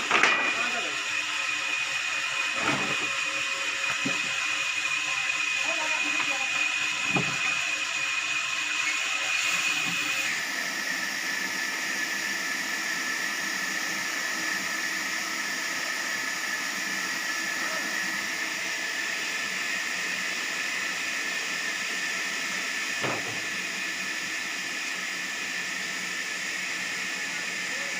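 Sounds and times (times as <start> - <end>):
sawmill saw whining: 0.0 - 27.9.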